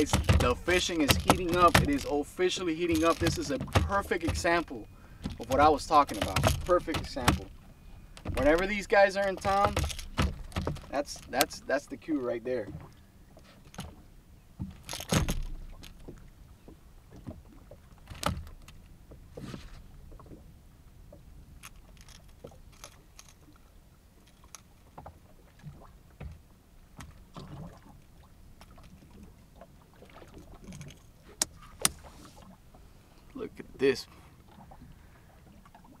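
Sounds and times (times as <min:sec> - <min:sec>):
knocks and clicks on boat: 0:00.0 - 0:34.9
water: 0:00.0 - 0:36.0
wind: 0:00.0 - 0:36.0.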